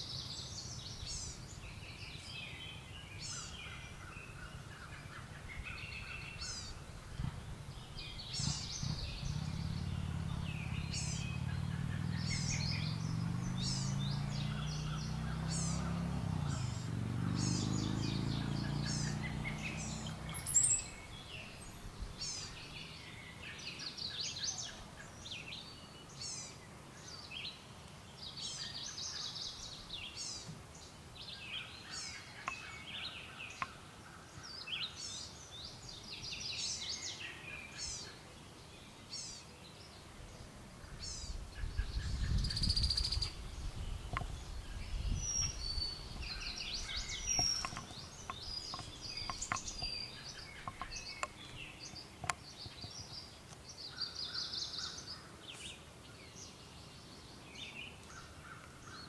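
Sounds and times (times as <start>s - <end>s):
songbirds calling: 0.0s - 59.0s.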